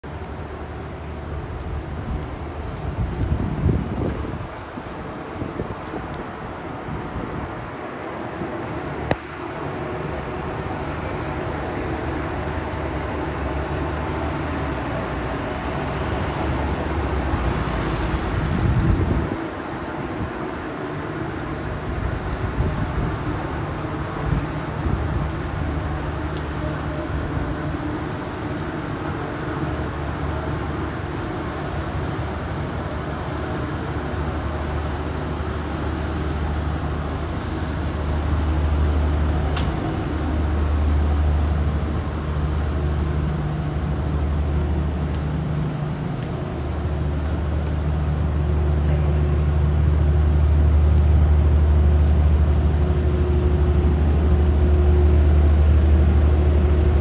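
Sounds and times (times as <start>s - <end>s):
constant traffic hiss: 0.0s - 57.0s
traffic engine rumble: 0.0s - 57.0s.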